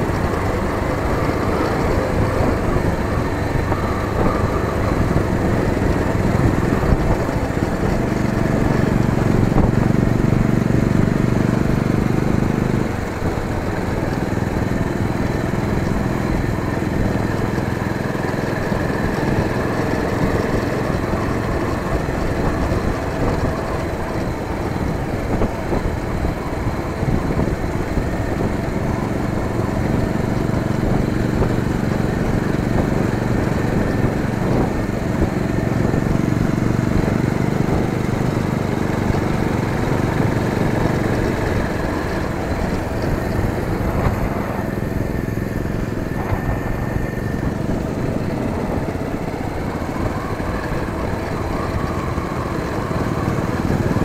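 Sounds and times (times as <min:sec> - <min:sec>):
motorcycle engine running: 0:00.0 - 0:54.0
road and wind noise: 0:00.0 - 0:54.0.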